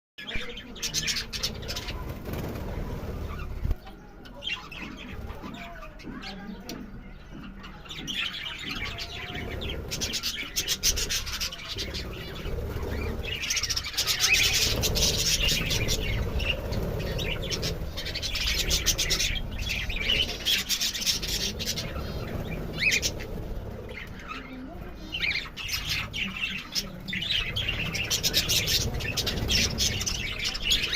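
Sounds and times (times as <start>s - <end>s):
budgerigars chattering: 0.3s - 3.8s, 7.3s - 30.9s.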